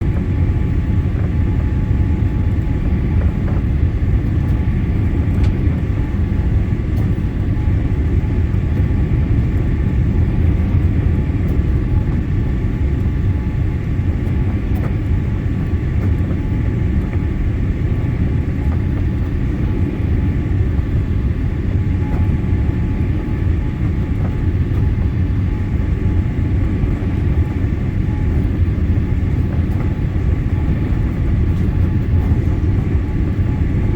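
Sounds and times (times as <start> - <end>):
airliner cabin rumble: 0.0 - 33.9
faint whining tones: 0.0 - 33.9.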